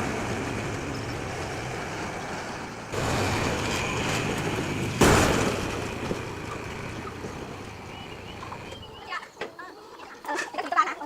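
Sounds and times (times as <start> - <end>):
motor vehicle running: 0.0 - 9.0.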